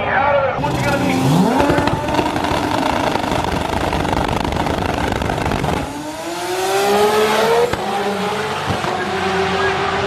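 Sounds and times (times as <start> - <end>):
drag car engines at full throttle: 0.5 - 10.0.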